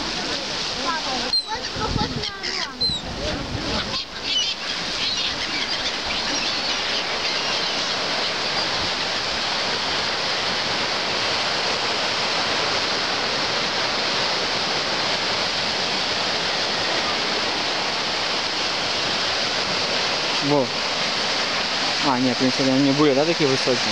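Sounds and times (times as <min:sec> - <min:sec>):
waves breaking on shore: 0:00.0 - 0:23.9.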